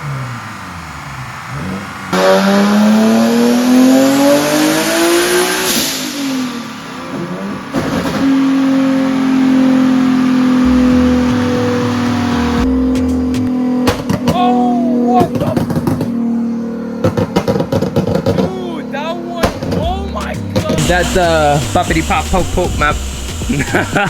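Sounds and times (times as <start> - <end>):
car engine revving on dyno: 0.0 - 19.8, 20.6 - 24.0.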